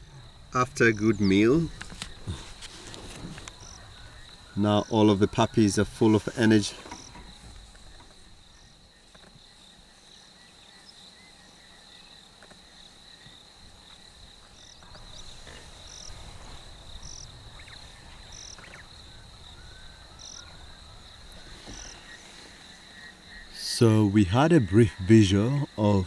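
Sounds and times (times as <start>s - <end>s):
crickets droning: 0.0s - 26.0s.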